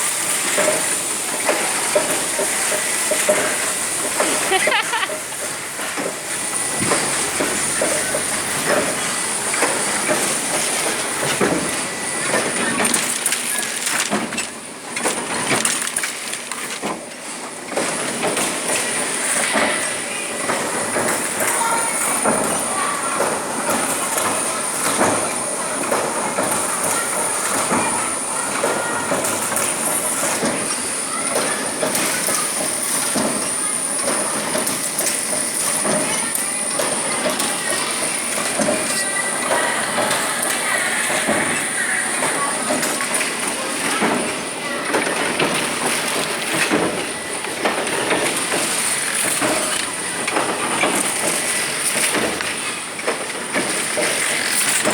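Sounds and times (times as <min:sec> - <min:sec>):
press machine clattering: 0:00.0 - 0:54.9.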